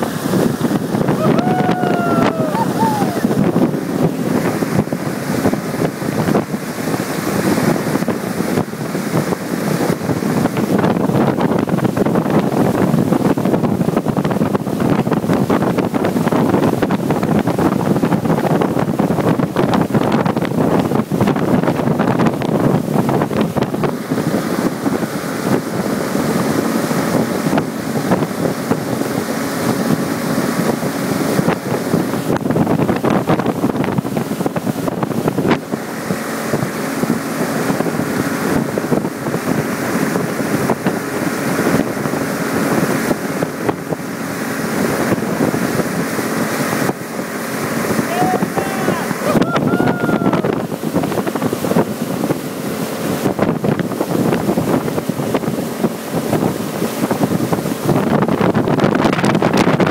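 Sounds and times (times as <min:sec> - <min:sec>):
motorboat running: 0:00.0 - 0:59.9
rush of boat wake: 0:00.0 - 0:59.9
wind buffeting microphone: 0:00.0 - 0:59.9.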